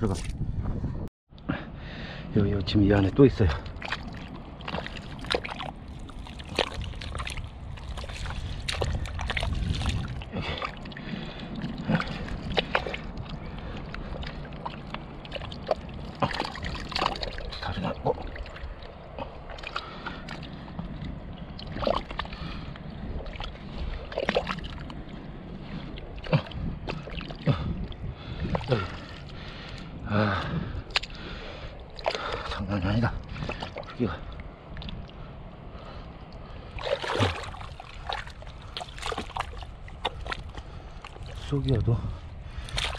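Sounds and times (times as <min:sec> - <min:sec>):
mud squelching and sloshing: 0:03.0 - 0:35.2, 0:36.3 - 0:41.8, 0:42.4 - 0:42.9.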